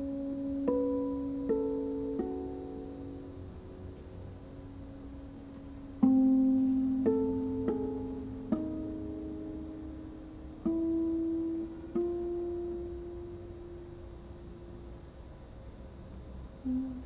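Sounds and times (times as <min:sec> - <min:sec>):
harp plucked notes: 0:00.0 - 0:14.9.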